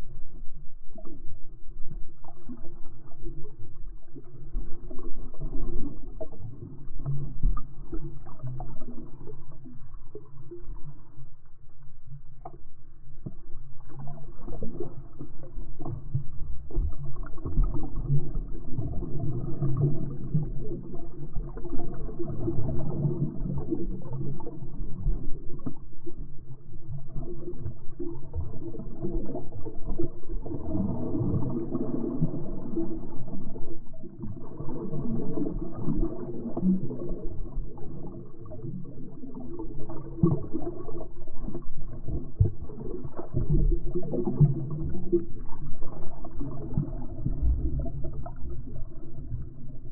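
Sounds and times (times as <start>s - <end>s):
muffled underwater churning: 0.0s - 49.9s.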